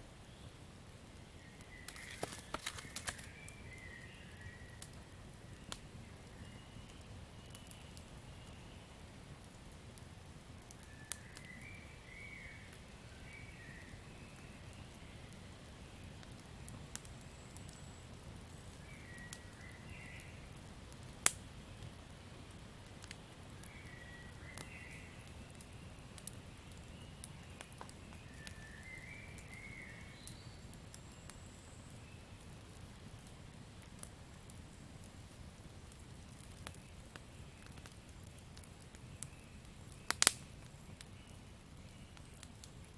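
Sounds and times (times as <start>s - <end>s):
campfire crackling and popping: 0.3s - 42.9s.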